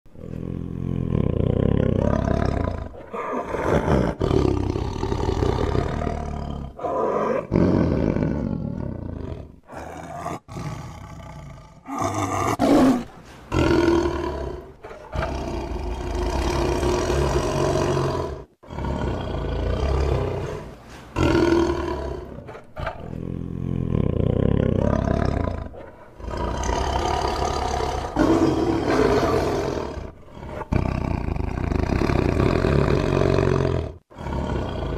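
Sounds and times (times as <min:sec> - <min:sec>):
tiger roaring and growling: 0:00.1 - 0:34.9.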